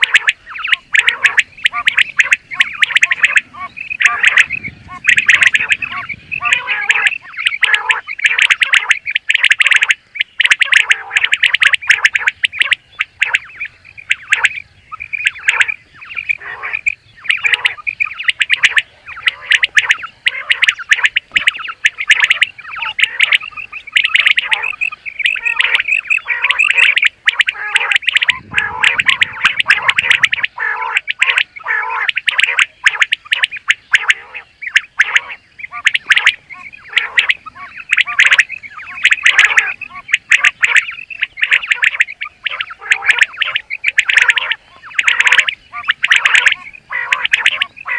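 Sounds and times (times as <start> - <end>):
quail chirping calls: 0.0 - 47.9.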